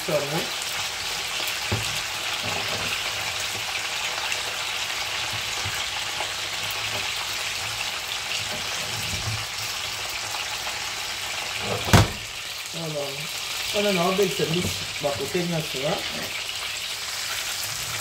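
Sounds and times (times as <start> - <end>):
fish sizzling in frying pan: 0.0 - 18.0.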